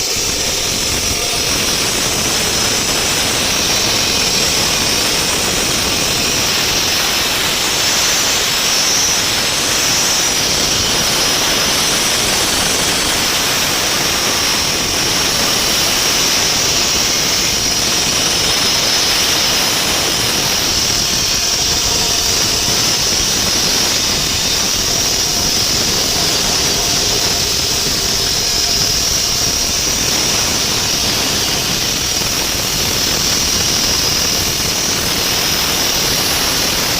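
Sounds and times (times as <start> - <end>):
diamond saw cutting concrete: 0.0 - 36.9.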